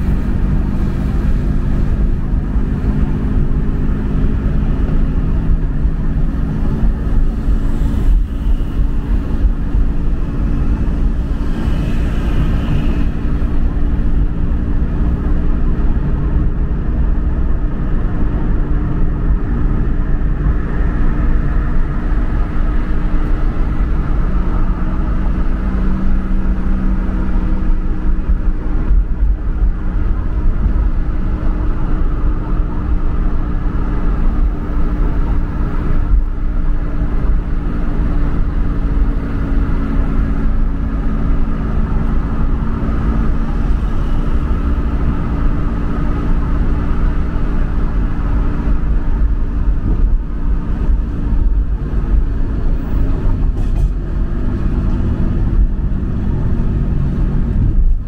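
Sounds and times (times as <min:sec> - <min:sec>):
motor vehicle rumble: 0:00.0 - 0:58.0.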